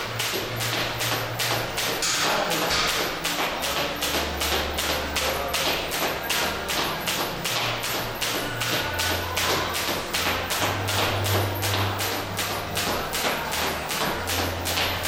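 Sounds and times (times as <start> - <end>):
jump rope slapping floor: 0.0 - 15.0.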